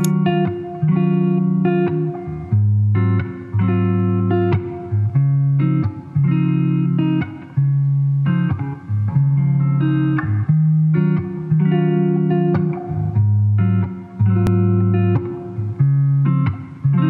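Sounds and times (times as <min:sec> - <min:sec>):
plucked guitar tune: 0:00.0 - 0:17.0.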